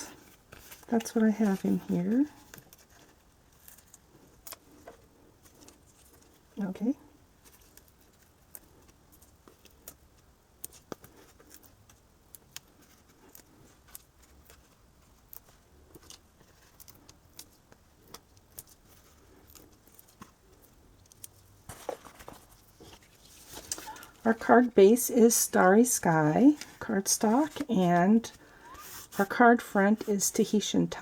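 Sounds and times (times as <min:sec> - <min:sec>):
paper rustling: 0:00.1 - 0:06.4, 0:10.7 - 0:30.3.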